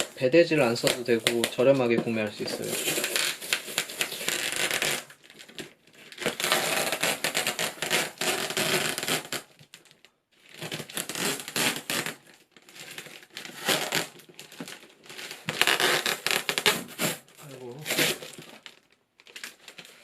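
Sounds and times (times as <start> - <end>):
cardboard and tape crinkling: 0.0 - 20.0.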